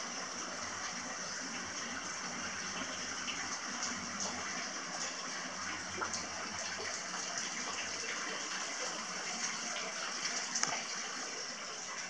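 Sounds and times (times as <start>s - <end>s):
water pouring into bath: 0.0s - 12.0s.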